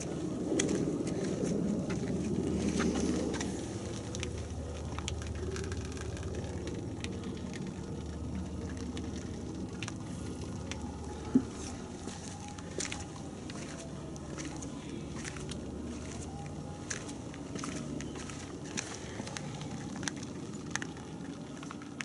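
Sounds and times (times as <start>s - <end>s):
low steady hum: 0.0s - 22.0s
foam fizzing and crackling: 0.2s - 22.0s.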